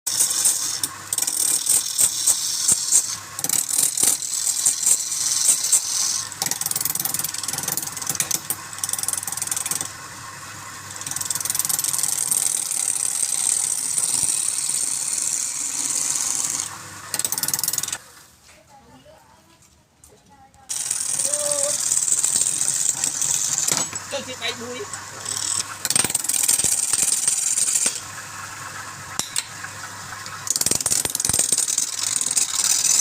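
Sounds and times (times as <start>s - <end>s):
lathe tool scraping wood: 0.1s - 10.0s, 10.9s - 18.0s, 20.7s - 33.0s.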